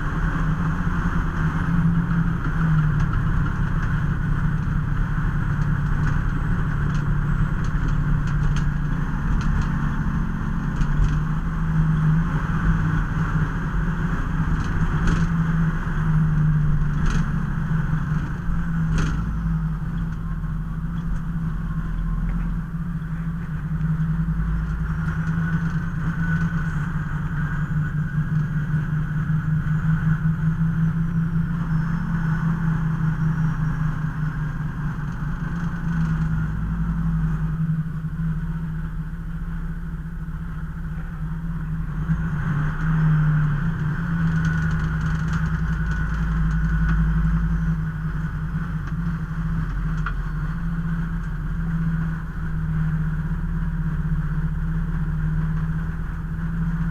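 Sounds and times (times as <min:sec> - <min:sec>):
low road rumble: 0:00.0 - 0:56.9
vehicle engine running: 0:00.0 - 0:56.9.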